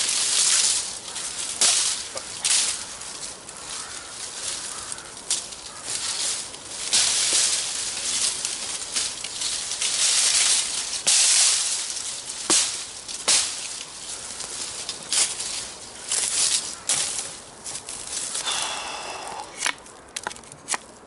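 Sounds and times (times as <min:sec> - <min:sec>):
wood breaking cracks: 0:00.0 - 0:18.4
dry brush rustling and crackling: 0:00.0 - 0:21.0.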